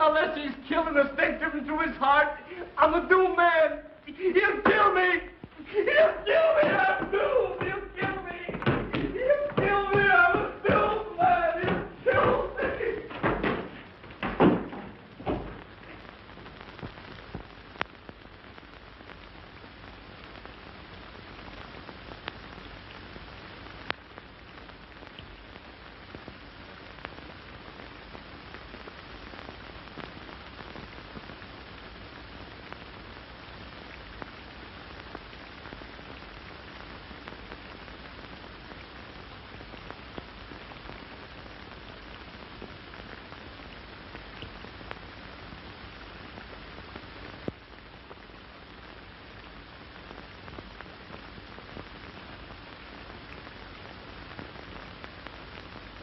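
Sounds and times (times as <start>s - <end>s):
film soundtrack surface hiss and crackle: 0.0s - 56.0s.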